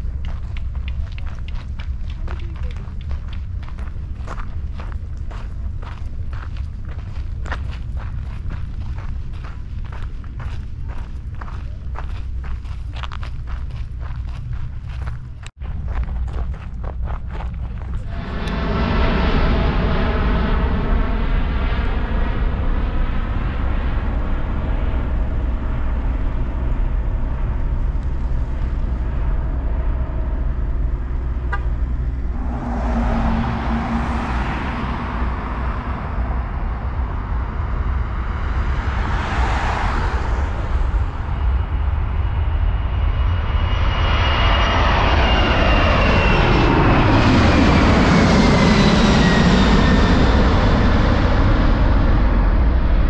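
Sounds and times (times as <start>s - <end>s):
jet airliner roaring past: 0.0s - 53.0s
jet airliner rumble overhead: 0.0s - 53.0s.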